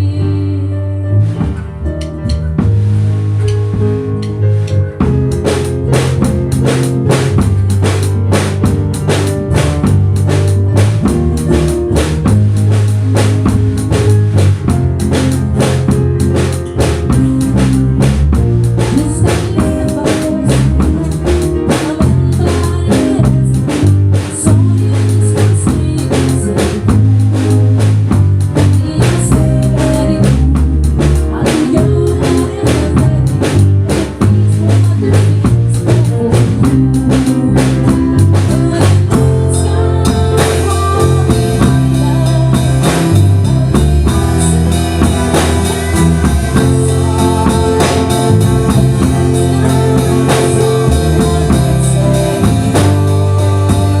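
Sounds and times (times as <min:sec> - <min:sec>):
bass line: 0:00.0 - 0:54.0
drum kit beat: 0:01.2 - 0:54.0.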